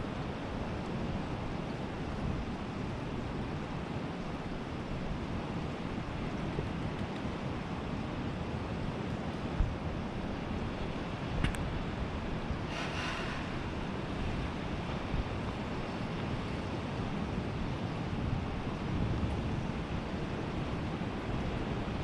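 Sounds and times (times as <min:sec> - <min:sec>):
sea surf rushing: 0:00.0 - 0:22.0
wind buffeting microphone: 0:00.0 - 0:22.0.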